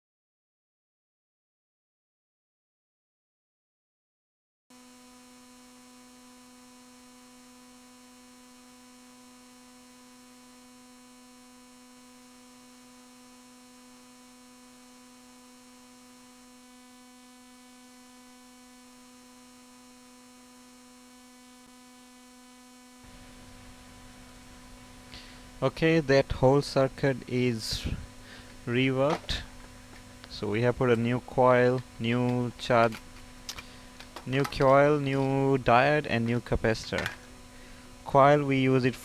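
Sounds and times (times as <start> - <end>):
faint electrical hum: 4.8 - 39.0.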